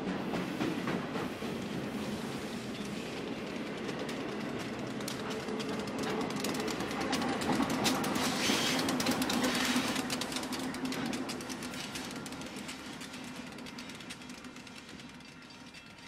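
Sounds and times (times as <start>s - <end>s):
diesel locomotive engine hum: 0.0s - 16.0s
train wheels clicking over rails: 0.0s - 16.0s.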